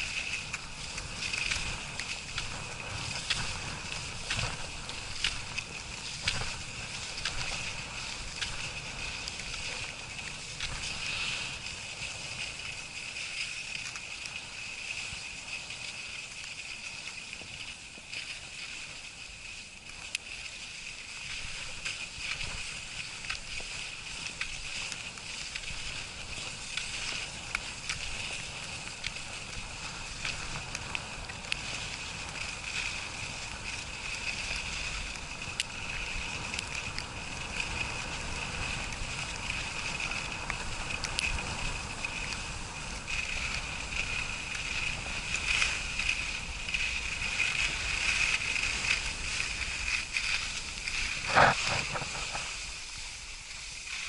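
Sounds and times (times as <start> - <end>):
skis sliding over snow: 0.0 - 54.0
small clicks and scrapes: 0.0 - 54.0
wind rumbling on microphone: 0.0 - 54.0.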